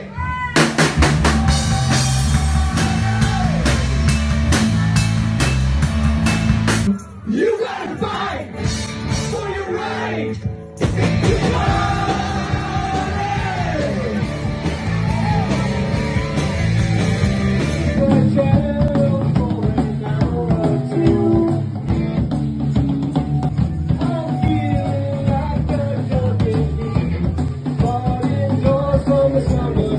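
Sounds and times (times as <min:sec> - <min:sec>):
live rock band with singer: 0:00.0 - 0:29.9.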